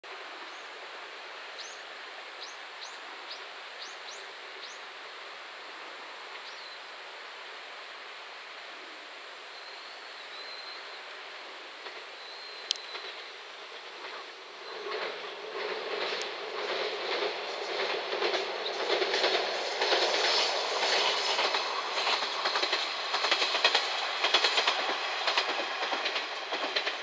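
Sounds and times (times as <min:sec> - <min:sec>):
outdoor background noise: 0:00.0 - 0:27.0
distant diesel railcar: 0:00.1 - 0:27.0.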